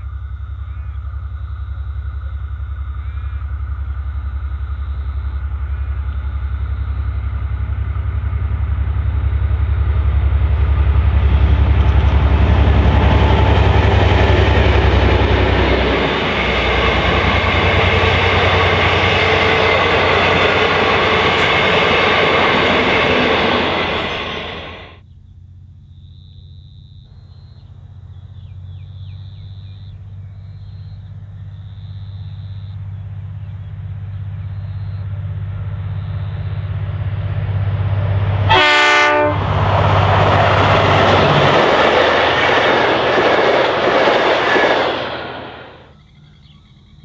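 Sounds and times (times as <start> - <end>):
diesel locomotive engine drone: 0.0 - 47.0.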